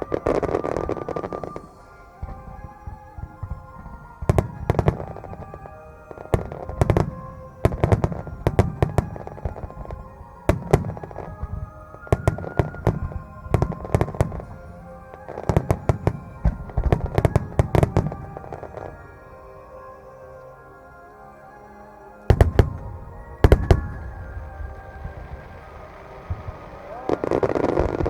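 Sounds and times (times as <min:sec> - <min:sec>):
fireworks bursting: 0:00.0 - 0:28.0
music with sustained tones: 0:00.0 - 0:28.0.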